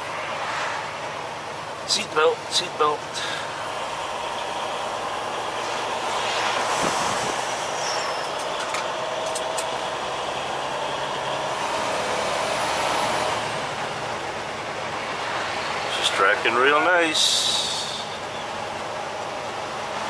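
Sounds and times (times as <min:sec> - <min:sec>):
passing traffic: 0:00.0 - 0:20.0
truck cab road noise: 0:00.0 - 0:20.0.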